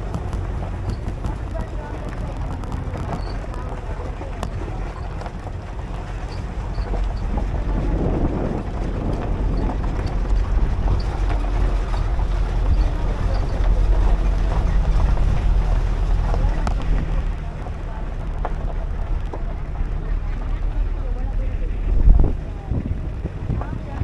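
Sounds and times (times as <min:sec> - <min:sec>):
road rumble: 0:00.0 - 0:24.0
vehicle engine running: 0:00.0 - 0:24.0
wind buffeting microphone: 0:00.0 - 0:24.0.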